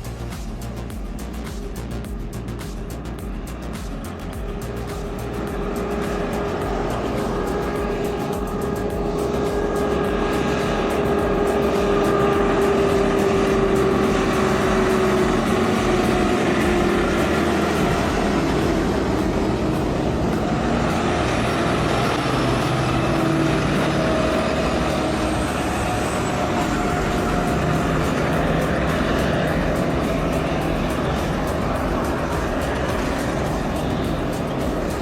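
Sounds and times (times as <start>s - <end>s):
heavy truck engine running: 0.0s - 35.0s.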